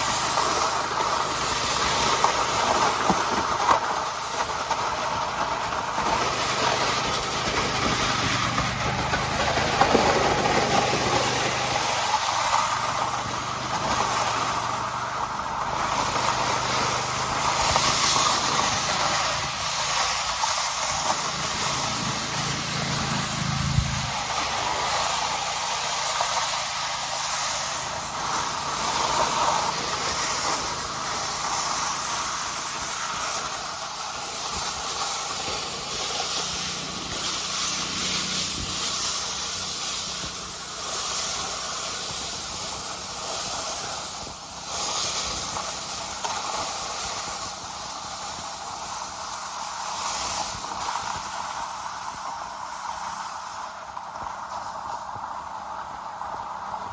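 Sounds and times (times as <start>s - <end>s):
low engine hum: 0.0s - 45.6s
tyres hissing on ice: 0.0s - 56.9s.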